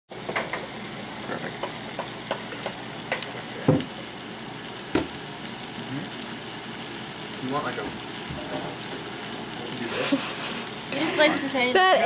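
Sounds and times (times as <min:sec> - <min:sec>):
fish sizzling in hot oil: 0:00.1 - 0:12.0.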